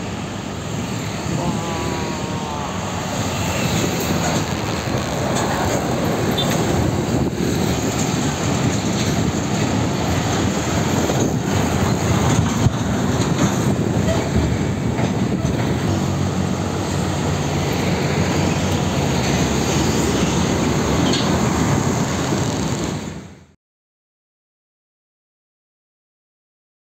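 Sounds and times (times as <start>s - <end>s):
trucks and motorcycles passing: 0.0s - 23.4s.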